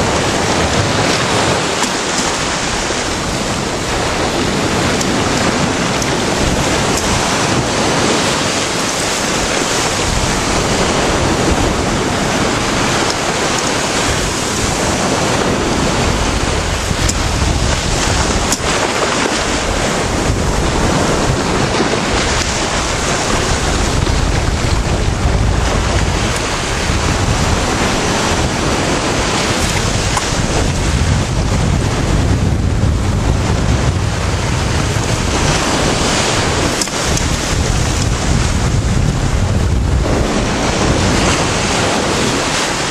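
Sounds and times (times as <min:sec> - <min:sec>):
sea waves breaking: 0:00.0 - 0:42.9
wind buffeting microphone: 0:00.0 - 0:42.9.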